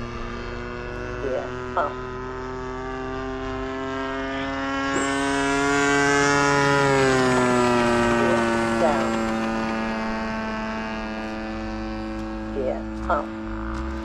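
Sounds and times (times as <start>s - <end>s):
model airplane engine: 0.0s - 14.0s.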